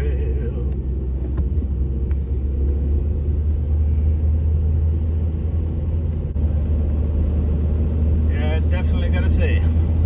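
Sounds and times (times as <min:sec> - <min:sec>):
car driving rumble from inside: 0:00.0 - 0:10.0.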